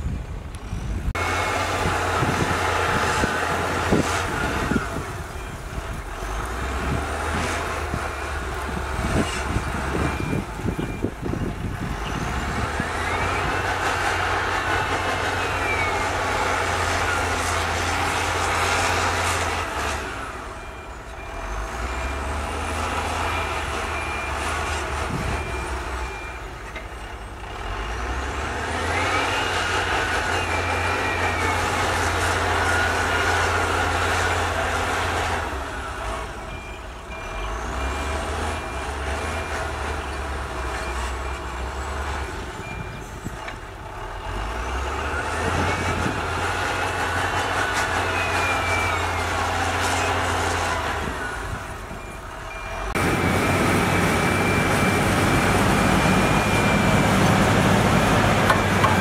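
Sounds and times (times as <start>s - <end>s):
heavy machinery diesel engine: 0.0s - 59.0s
reversing alarm beeping: 1.2s - 27.3s, 28.6s - 59.0s.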